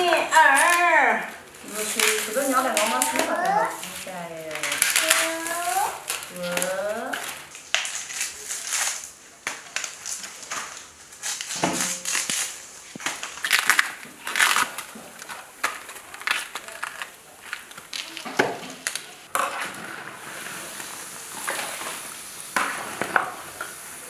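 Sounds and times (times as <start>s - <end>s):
husks tearing and cracking: 0.0s - 22.0s
steady hiss: 1.4s - 24.0s.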